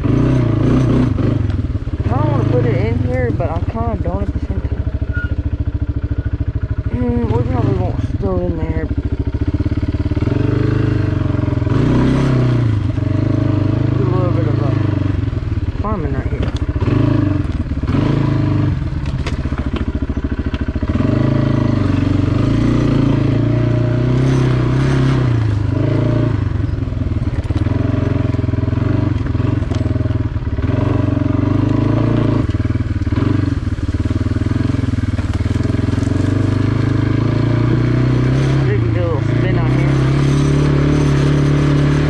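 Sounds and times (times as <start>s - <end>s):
atv engine revving under load: 0.0s - 42.0s.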